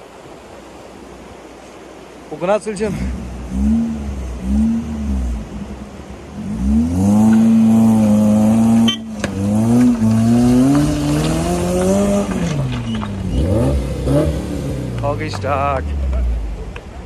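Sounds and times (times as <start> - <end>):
vehicle engine under load: 2.8 - 17.0.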